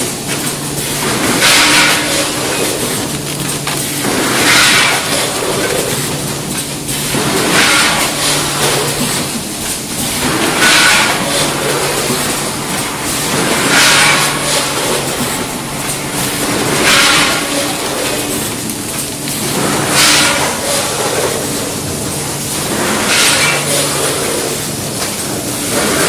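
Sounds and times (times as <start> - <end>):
packaging machine humming: 0.0 - 26.0.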